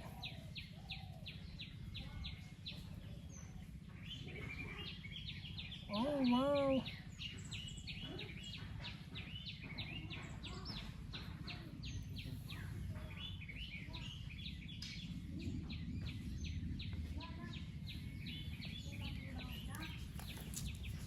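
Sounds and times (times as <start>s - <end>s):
birds chirping: 0.0s - 21.0s
low background rumble: 0.0s - 21.0s.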